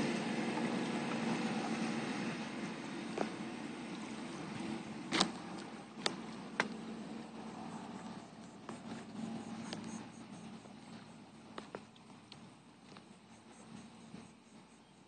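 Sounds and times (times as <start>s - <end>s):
distant outboard motor drone: 0.0s - 15.0s.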